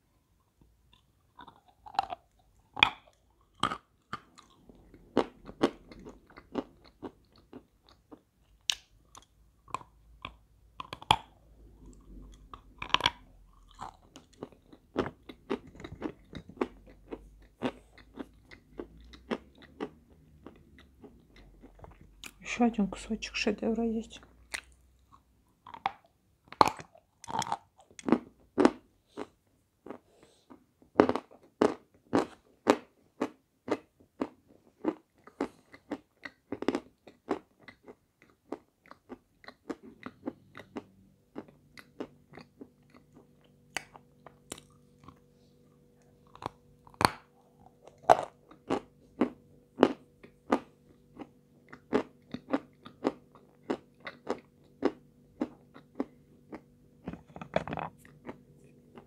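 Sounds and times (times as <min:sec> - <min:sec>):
faint steady hum: 0:00.0 - 0:59.0
crunchy chewing: 0:00.9 - 0:22.4, 0:24.4 - 0:45.3, 0:46.0 - 0:59.0.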